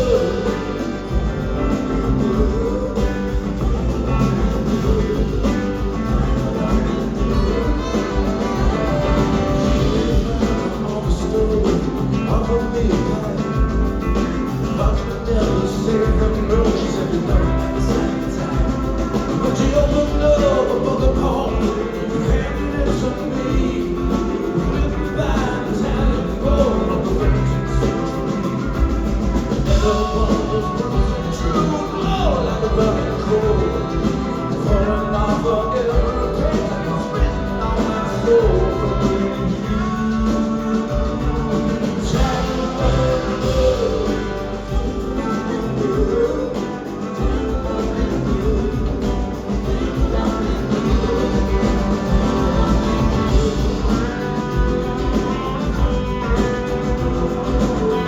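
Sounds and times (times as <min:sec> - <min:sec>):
live rock band: 0:00.0 - 0:58.0.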